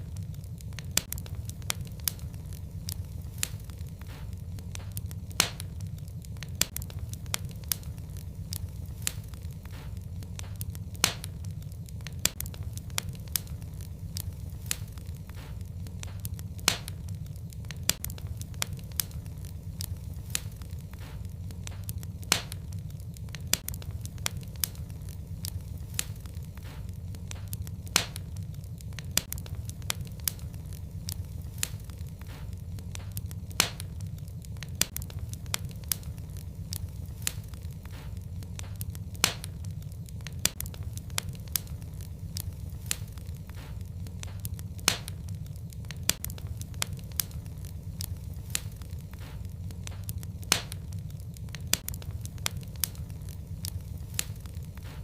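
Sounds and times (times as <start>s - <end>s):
fire crackling and popping: 0.0s - 55.0s
low rumble: 0.0s - 55.0s.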